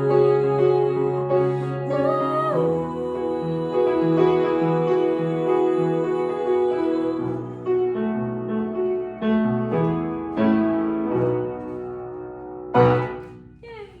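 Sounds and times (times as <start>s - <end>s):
slow piano melody: 0.0s - 13.6s.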